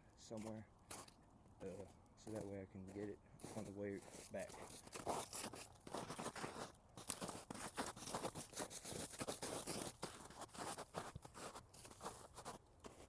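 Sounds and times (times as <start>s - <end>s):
footsteps crunching through brush: 0.3s - 13.0s.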